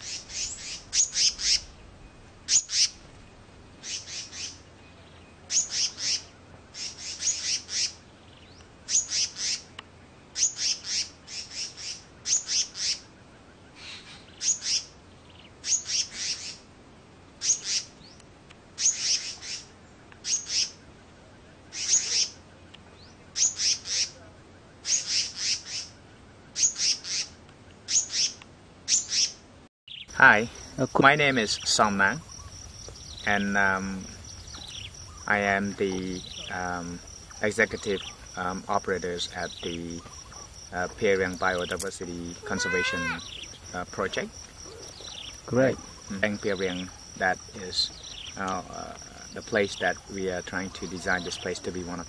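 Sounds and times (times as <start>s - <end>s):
bird calling: 0.0s - 16.6s, 18.8s - 52.0s.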